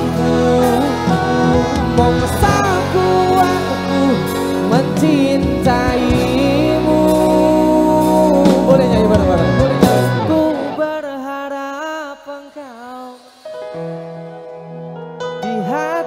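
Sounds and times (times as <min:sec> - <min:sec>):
live band playing: 0:00.0 - 0:11.3, 0:12.1 - 0:16.0
man singing: 0:00.0 - 0:13.6, 0:15.4 - 0:16.0.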